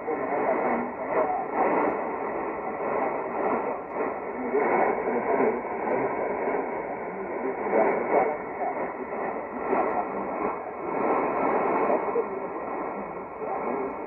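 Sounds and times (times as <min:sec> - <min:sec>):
radio hiss and static: 0:00.0 - 0:14.0
radio voice: 0:00.0 - 0:14.0.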